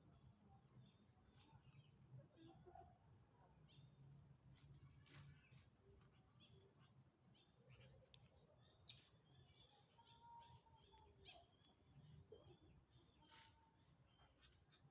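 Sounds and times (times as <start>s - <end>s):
faint bird chirps: 0.0s - 14.9s.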